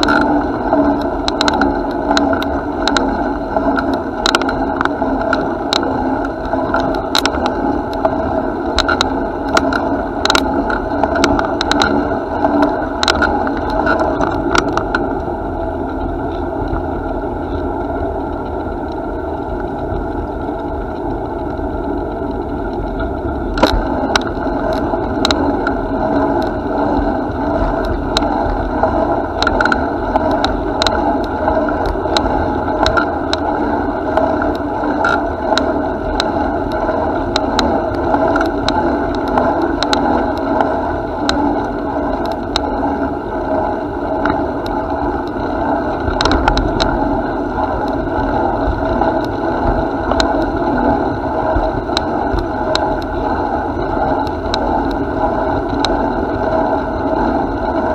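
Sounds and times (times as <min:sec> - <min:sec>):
bicycle clicks and rattles: 0:00.0 - 0:57.9
bicycle rolling rumble: 0:00.0 - 0:57.9.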